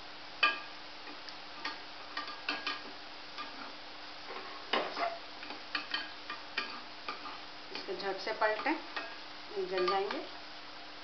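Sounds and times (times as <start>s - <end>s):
deep-frying sizzle in oil: 0.0s - 11.0s
faint steady hum: 0.0s - 11.0s
spatula knocking and scraping pan: 0.4s - 10.3s.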